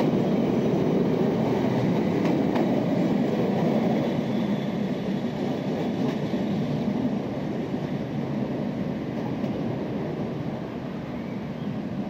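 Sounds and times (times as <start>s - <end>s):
train rumbling over rails: 0.0s - 12.0s.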